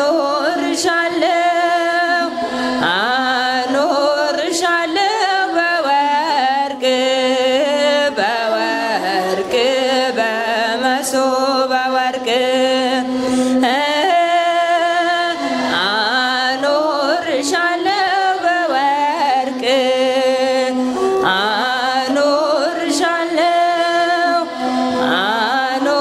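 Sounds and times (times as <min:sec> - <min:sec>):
group of women singing a hymn: 0:00.0 - 0:26.0.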